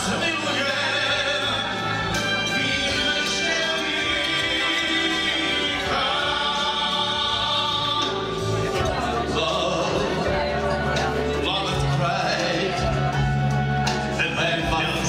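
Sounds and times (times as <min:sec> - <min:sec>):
background music: 0:00.0 - 0:15.0
operatic singing: 0:00.0 - 0:15.0.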